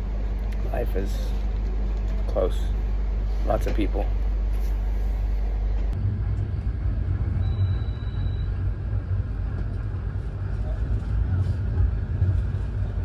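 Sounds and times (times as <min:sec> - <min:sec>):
steady low hum: 0:00.0 - 0:13.0
train carriage rumbling: 0:00.0 - 0:13.0.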